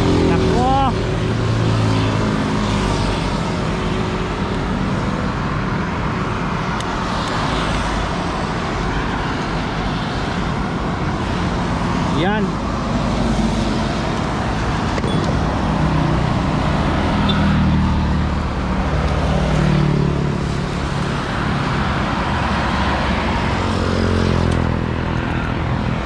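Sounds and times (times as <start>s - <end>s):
passing vehicle engines humming: 0.0s - 26.0s.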